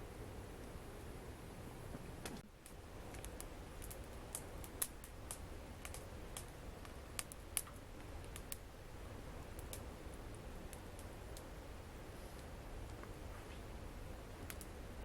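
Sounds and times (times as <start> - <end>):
wood fire crackling and popping: 2.0 - 15.0.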